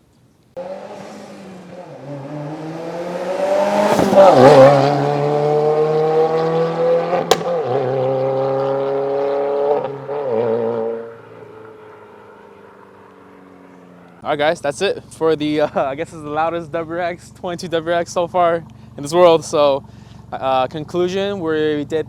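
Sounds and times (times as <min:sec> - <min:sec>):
car exhaust accelerating: 0:00.6 - 0:22.0
exhaust crack: 0:01.0 - 0:22.0.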